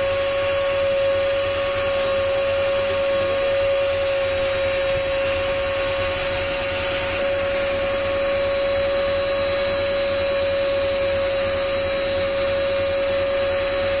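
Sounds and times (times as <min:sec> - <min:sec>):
rotary handpiece motor whine: 0:00.0 - 0:14.0.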